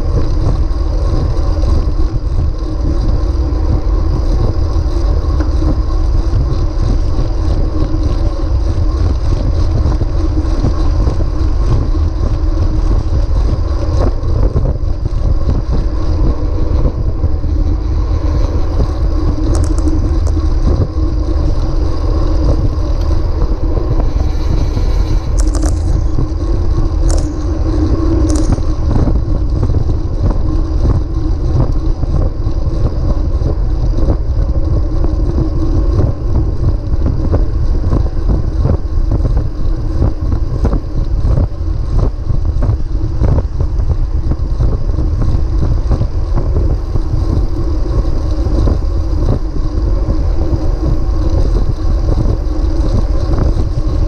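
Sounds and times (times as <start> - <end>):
bicycle tyres rumbling: 0.0 - 54.0
wind on microphone: 0.0 - 54.0.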